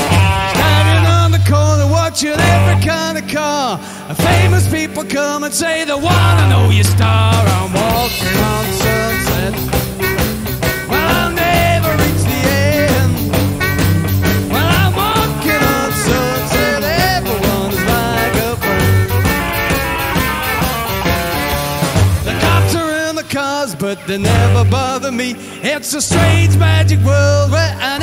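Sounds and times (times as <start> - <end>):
bending sliding lead guitar: 0.0 - 28.0
blues band playing: 0.0 - 28.0.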